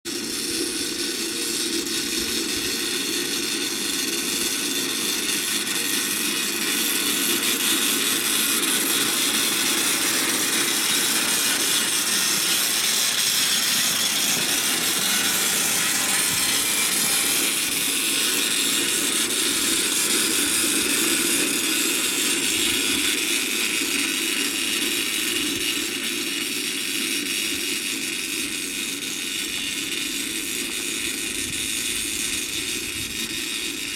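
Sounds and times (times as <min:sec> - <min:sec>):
sickle bar mower cutting hay: 0:00.1 - 0:33.9.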